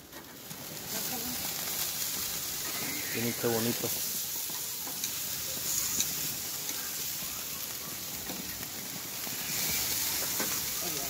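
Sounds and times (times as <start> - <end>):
fish sizzling on a grill: 0.0 - 11.0.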